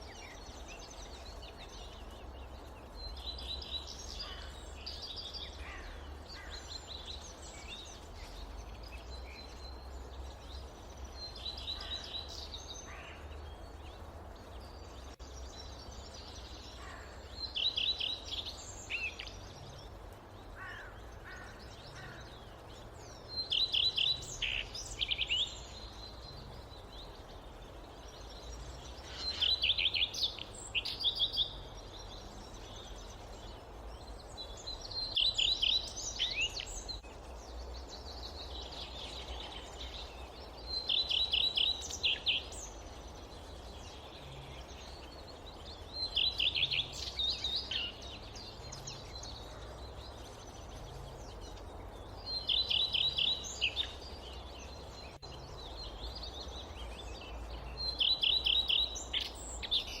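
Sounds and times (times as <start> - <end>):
forest ambience rumble: 0.0 - 60.0.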